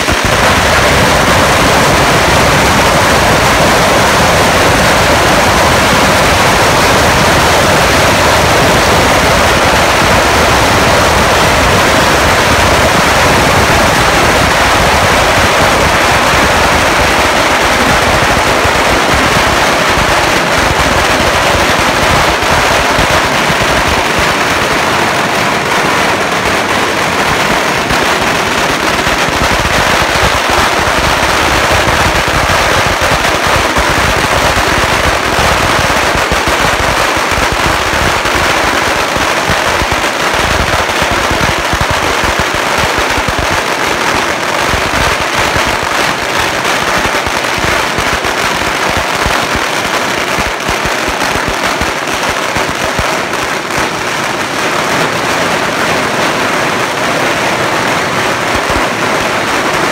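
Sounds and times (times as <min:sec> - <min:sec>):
firecrackers banging: 0:00.0 - 0:59.9.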